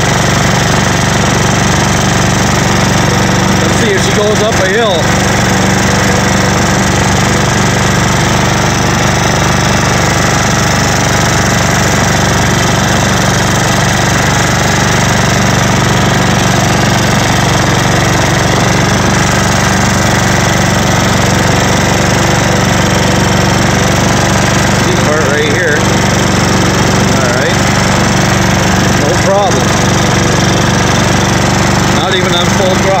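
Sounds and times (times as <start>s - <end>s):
riding mower engine running: 0.0s - 33.0s.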